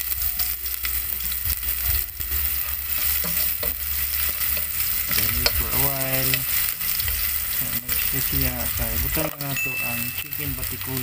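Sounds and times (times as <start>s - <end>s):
garlic and onion sizzling in oil: 0.0s - 11.0s.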